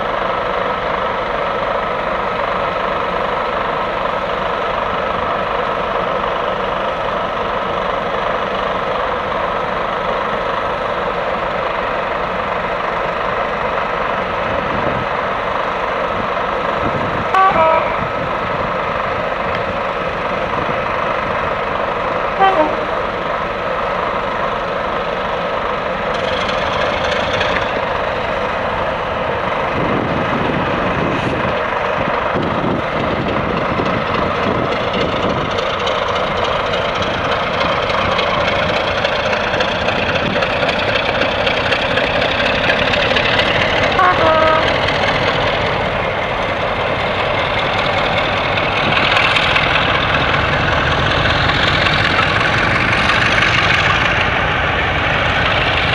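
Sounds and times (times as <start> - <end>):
diesel locomotive engines droning: 0.0 - 55.9.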